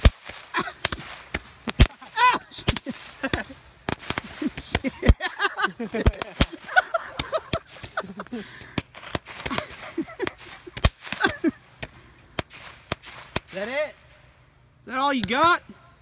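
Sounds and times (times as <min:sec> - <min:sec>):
fireworks cracking and popping: 0:00.0 - 0:16.0.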